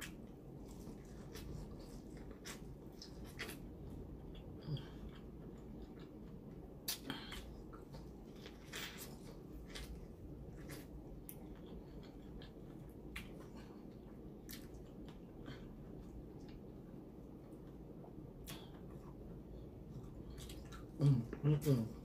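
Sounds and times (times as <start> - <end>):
chewing and mouth smacks: 0.0 - 16.8, 17.4 - 21.8.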